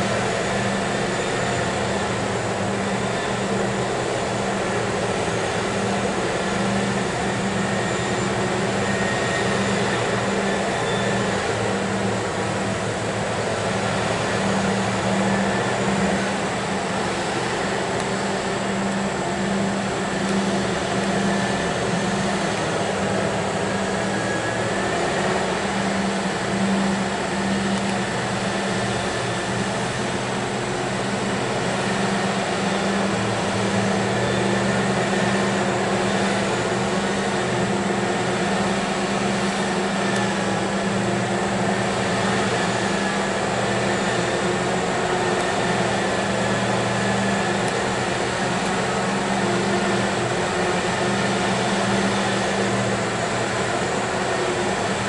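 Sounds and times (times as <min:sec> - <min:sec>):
deep machinery drone: 0:00.0 - 0:55.0
faint high whine: 0:00.0 - 0:55.0.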